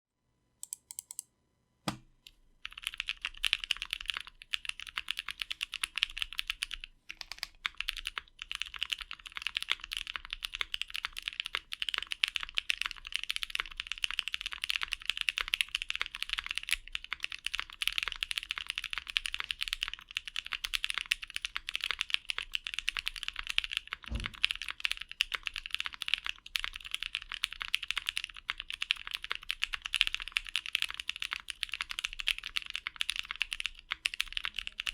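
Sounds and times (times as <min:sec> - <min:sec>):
fast typing on mechanical keyboard: 0:02.6 - 0:34.9.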